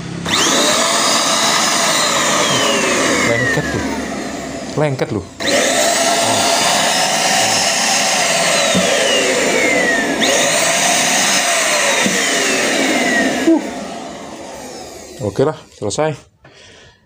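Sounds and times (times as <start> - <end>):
handheld vacuum cleaner whine: 0.0 - 15.6.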